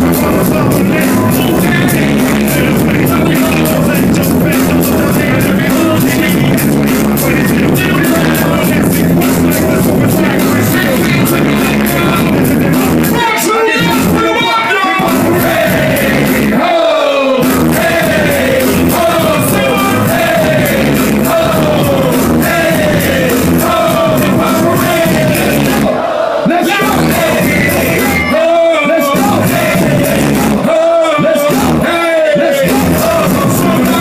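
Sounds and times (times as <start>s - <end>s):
heavy bass beat: 0.0s - 34.0s
rapping over a beat: 0.0s - 34.0s.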